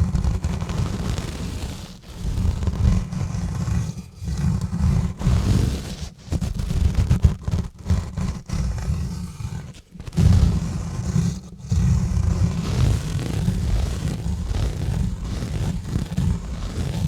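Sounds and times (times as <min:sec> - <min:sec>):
gloves rubbing on microphone: 0:00.0 - 0:17.0.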